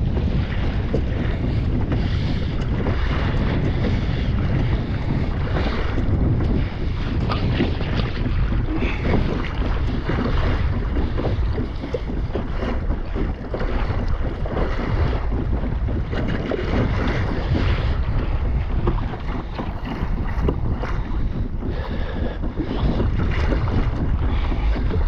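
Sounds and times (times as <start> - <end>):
water splashing against hull: 0.0 - 25.0
wind buffeting microphone: 0.0 - 25.0.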